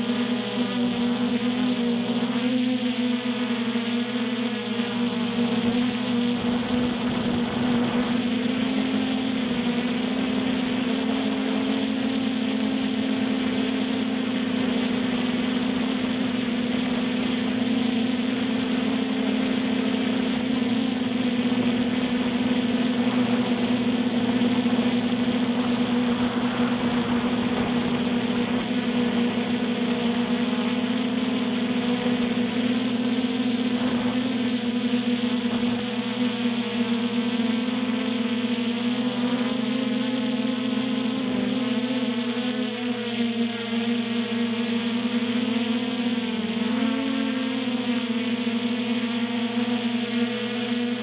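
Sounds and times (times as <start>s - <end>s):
drone propellers humming: 0.0s - 51.0s.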